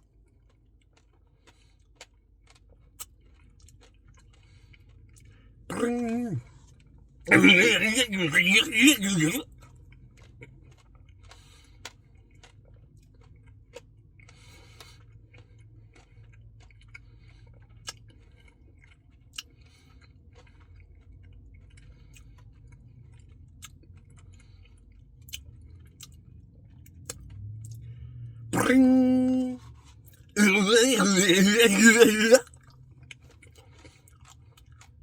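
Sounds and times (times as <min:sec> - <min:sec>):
chewing and wet mouth sounds: 0:00.0 - 0:35.0.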